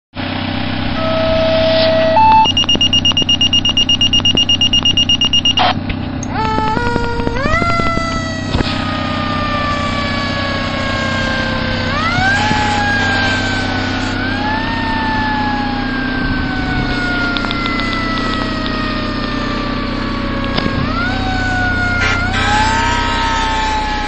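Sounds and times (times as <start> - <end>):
low engine hum: 0.2 - 24.0
emergency siren winding: 0.3 - 24.0.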